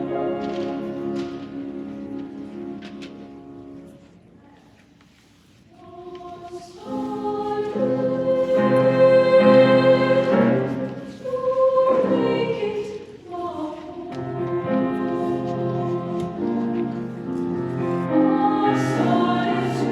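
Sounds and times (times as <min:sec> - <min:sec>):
choir singing sustained chords: 0:00.0 - 0:02.0, 0:05.8 - 0:19.9.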